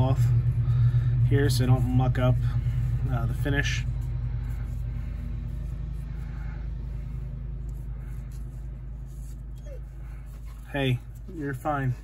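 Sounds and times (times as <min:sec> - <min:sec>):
muffled tractor engine rumble: 0:00.0 - 0:12.0.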